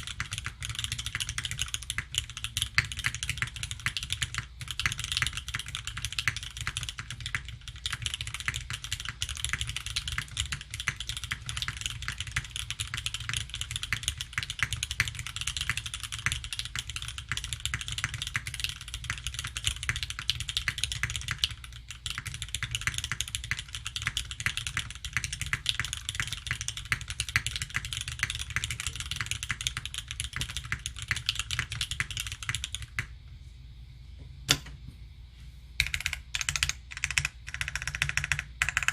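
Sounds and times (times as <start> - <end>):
typing on mechanical keyboard: 0.0 - 33.1, 35.8 - 38.9.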